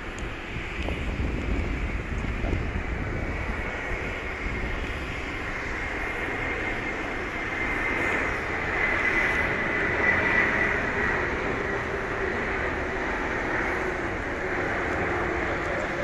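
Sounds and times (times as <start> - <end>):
jet airliner engine whine: 0.0 - 16.0.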